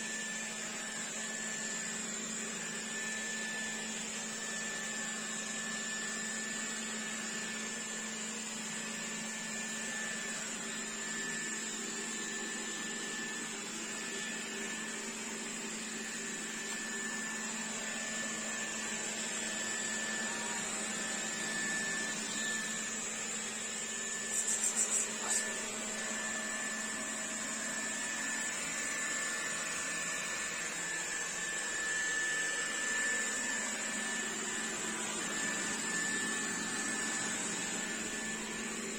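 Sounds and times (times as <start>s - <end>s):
robot vacuum humming and whining: 0.0s - 38.9s.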